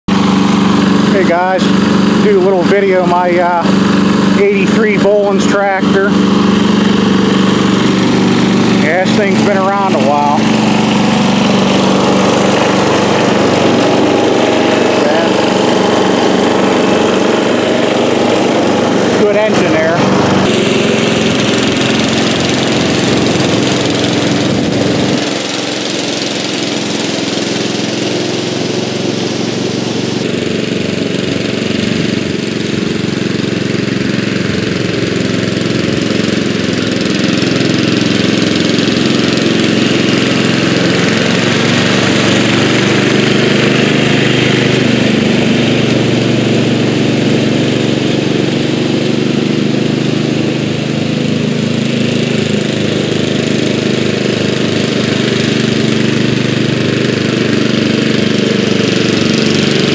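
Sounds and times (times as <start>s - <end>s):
lawn tractor engine running: 0.1s - 59.9s
mower deck cutting grass: 0.1s - 59.9s.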